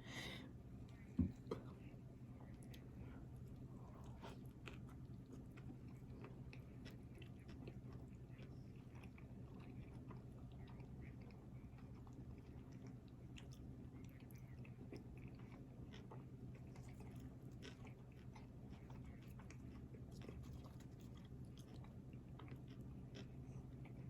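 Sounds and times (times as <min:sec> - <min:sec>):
steady low hum: 0:00.0 - 0:24.0
chewing food: 0:00.8 - 0:24.0.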